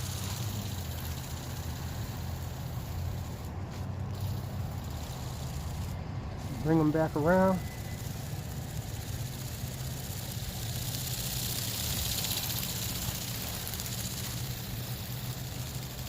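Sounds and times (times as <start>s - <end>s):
toy ornithopter buzzing: 0.0s - 16.0s.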